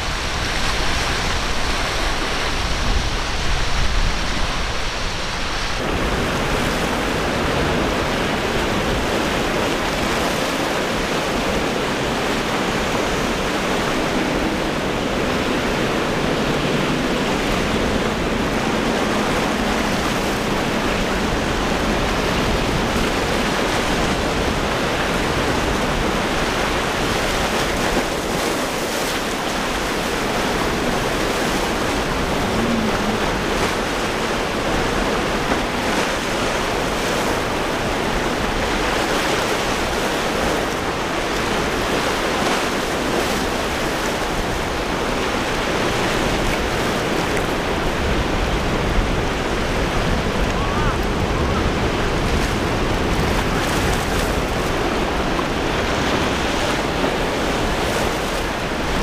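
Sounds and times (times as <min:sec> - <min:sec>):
surf and churning water: 0:00.0 - 0:59.0
wind rumble on microphone: 0:00.0 - 0:59.0.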